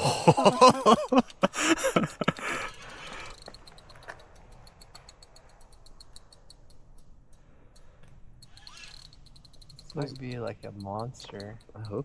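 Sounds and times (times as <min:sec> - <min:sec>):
fishing reel ticking: 0:00.9 - 0:12.0.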